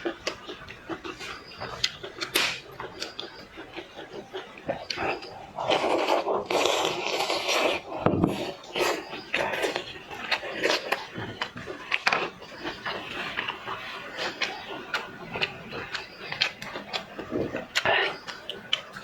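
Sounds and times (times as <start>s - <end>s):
wet chewing and lip smacking: 0.0s - 19.0s.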